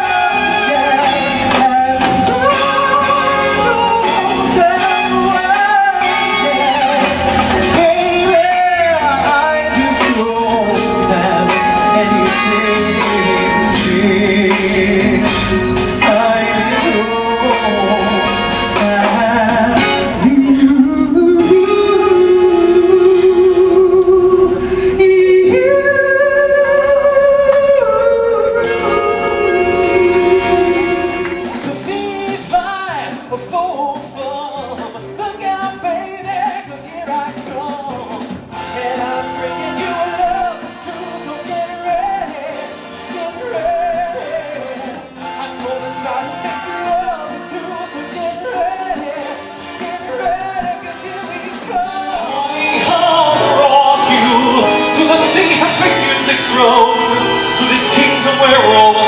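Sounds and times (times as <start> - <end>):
instrumental accompaniment: 0.0 - 59.0
person singing: 0.0 - 59.0.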